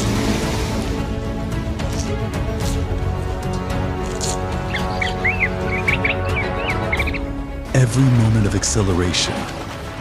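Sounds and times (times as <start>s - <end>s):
music with sustained tones: 0.0s - 10.0s.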